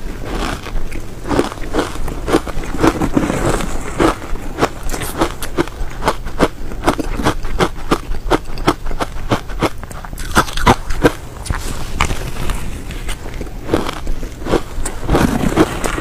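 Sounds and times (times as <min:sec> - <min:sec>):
crisp chewing crunches: 0:00.0 - 0:16.0.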